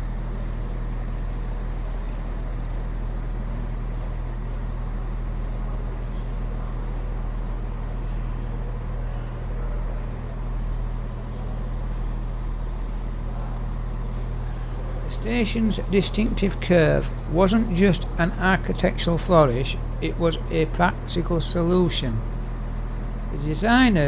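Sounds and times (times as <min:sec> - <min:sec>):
diesel train engine idling: 0:00.0 - 0:24.0.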